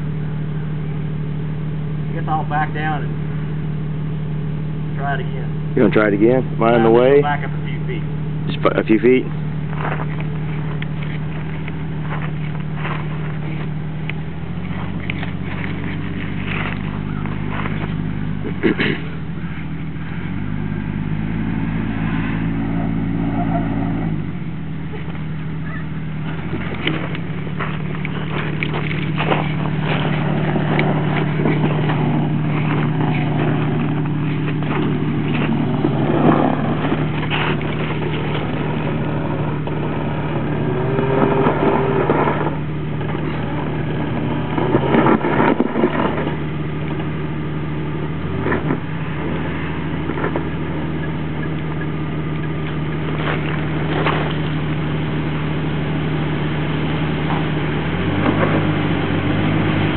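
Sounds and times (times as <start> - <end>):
engine idling: 0.0 - 59.9
tyres crunching over rock: 8.6 - 22.7, 24.0 - 59.9.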